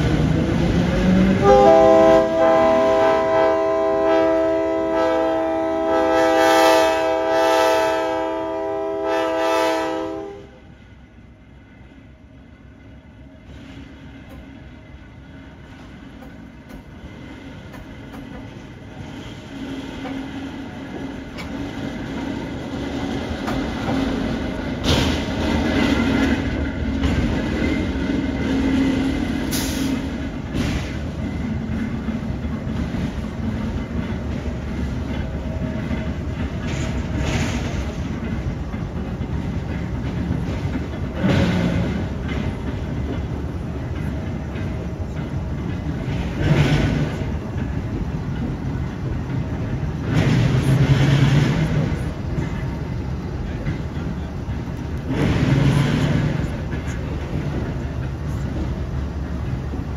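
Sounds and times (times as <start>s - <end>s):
locomotive engine passing: 8.0s - 59.9s.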